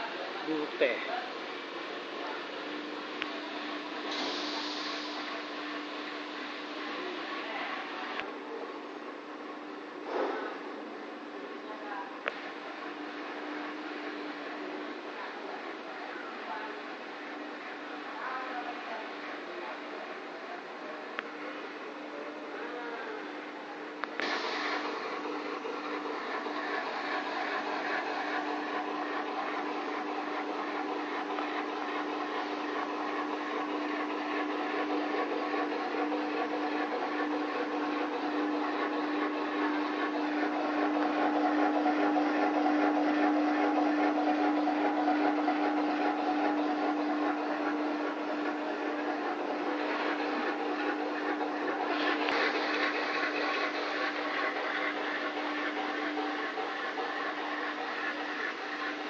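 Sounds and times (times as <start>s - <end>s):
machine humming and whirring: 0.0s - 59.0s.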